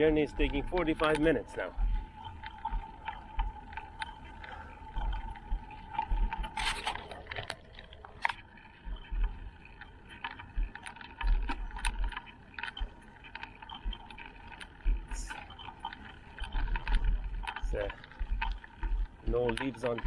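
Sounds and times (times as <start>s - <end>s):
bicycle clicks and rattles: 0.0s - 20.0s
thin steady whine: 0.0s - 20.0s
wind buffeting microphone: 0.0s - 20.0s.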